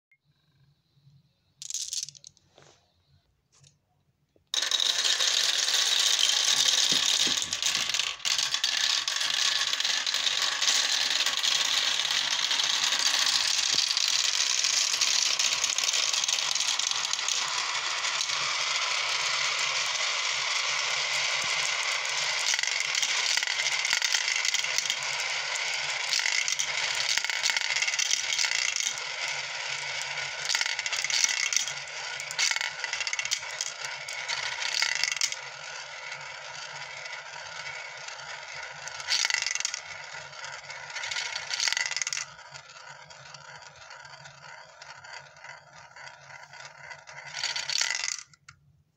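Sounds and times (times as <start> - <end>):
marbles rattling through plastic run: 1.6 - 2.3, 4.5 - 48.6.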